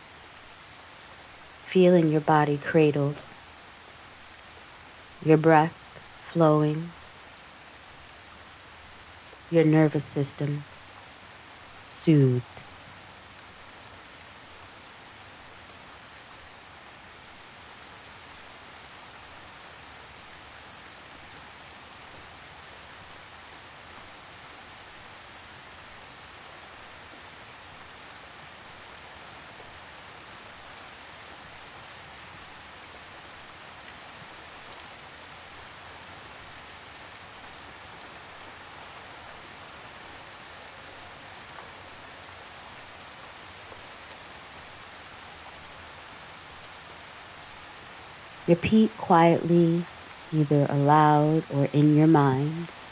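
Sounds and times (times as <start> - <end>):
gentle rain falling: 0.0 - 52.9.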